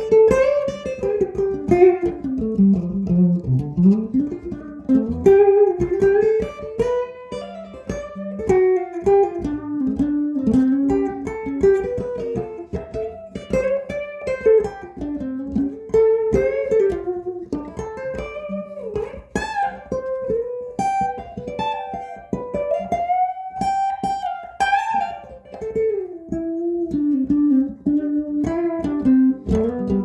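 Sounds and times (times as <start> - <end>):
electric guitar melody with bends: 0.0 - 30.0.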